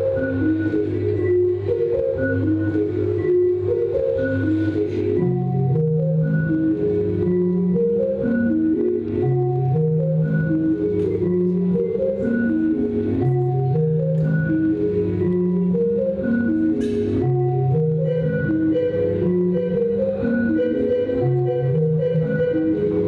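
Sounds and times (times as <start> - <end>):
low bass line: 0.0 - 23.0.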